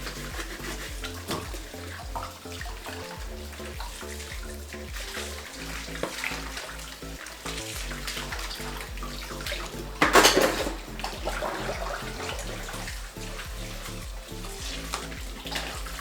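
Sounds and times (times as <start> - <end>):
background music with low pulse: 0.0 - 16.0
dishes being rinsed: 0.0 - 16.0
tap water running into sink: 0.0 - 16.0.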